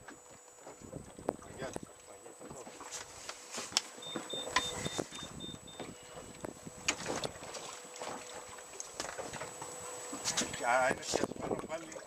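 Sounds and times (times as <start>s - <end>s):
knocks and handling clatter on boat: 0.0s - 12.0s.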